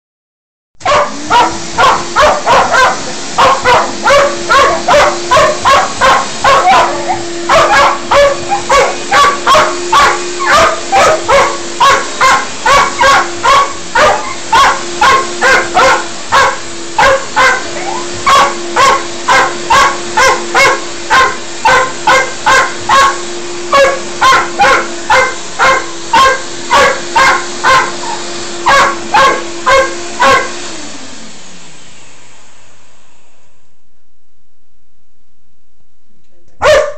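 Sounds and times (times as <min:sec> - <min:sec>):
dog barking rapidly: 0:00.8 - 0:30.6, 0:36.6 - 0:36.9
vacuum cleaner motor hum: 0:00.8 - 0:34.1.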